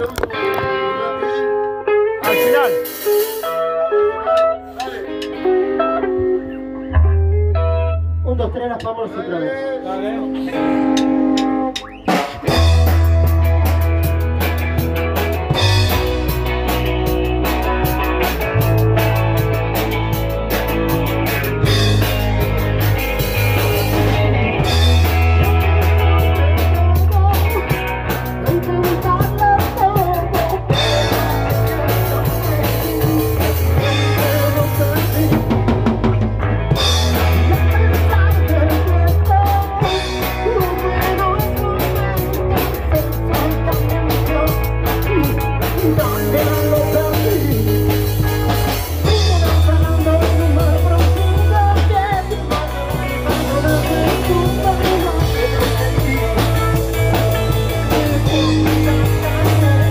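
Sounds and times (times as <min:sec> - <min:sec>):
bass notes: 0:00.0 - 0:59.9
guitar: 0:00.0 - 0:59.9.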